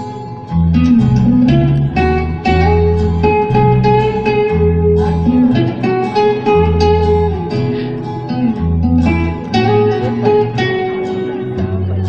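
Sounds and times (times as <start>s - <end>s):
acoustic guitar melody: 0.0s - 12.0s
slow bass line: 0.0s - 12.0s.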